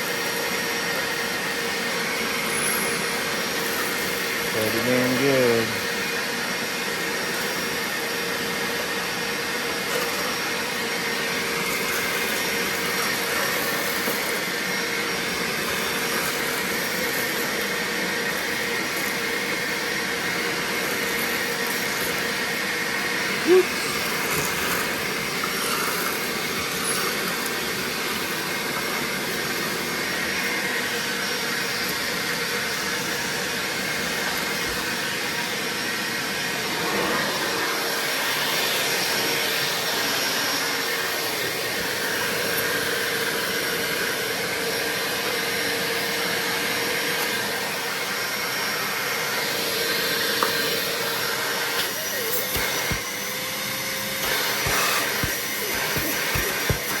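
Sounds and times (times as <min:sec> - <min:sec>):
shop vacuum running: 0:00.0 - 0:57.0.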